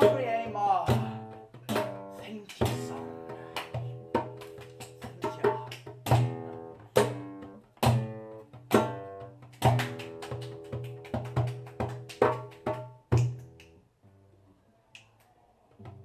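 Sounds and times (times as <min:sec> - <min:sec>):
plucked string instrument: 0:00.0 - 0:13.6
hand percussion: 0:00.0 - 0:13.8.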